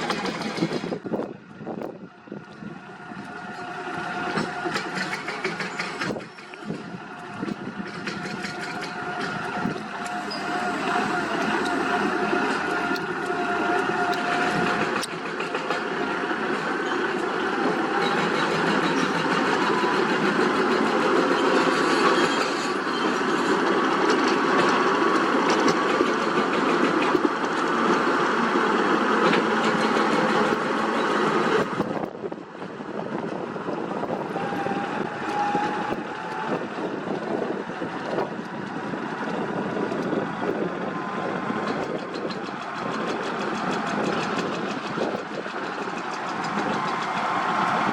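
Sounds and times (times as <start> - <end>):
diesel machinery engine: 0.0 - 47.9.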